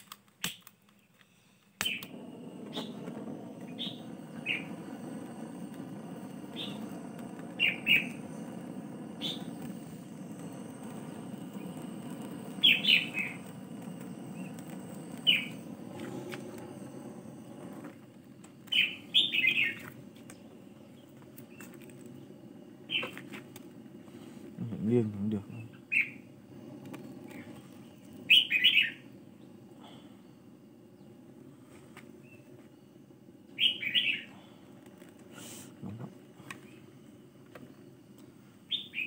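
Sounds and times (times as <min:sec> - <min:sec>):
butane torch burning: 0:00.0 - 0:39.0
small birds chirping: 0:01.8 - 0:17.8, 0:18.6 - 0:34.8.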